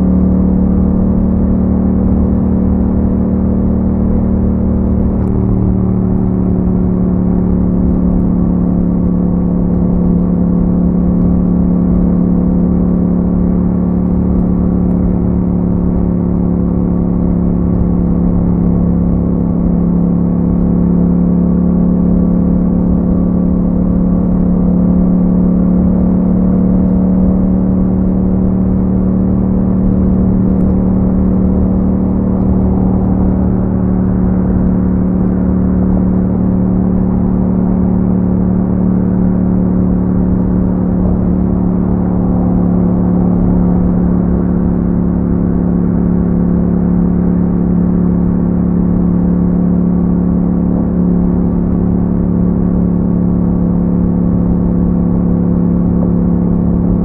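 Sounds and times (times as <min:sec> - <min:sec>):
motorcycle engine at steady revs: 0:00.0 - 0:57.0.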